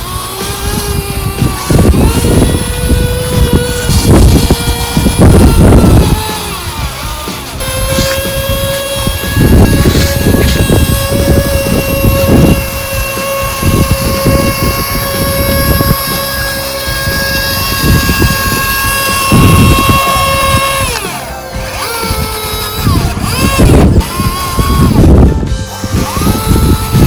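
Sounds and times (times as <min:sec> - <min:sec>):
low rumbling: 0:00.0 - 0:27.0
small electric motor whining: 0:00.0 - 0:27.0.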